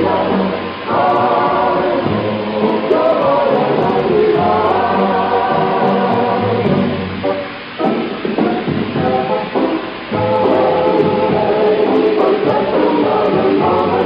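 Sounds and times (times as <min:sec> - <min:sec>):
choir singing held notes: 0:00.0 - 0:14.0
instrumental backing: 0:00.0 - 0:14.0.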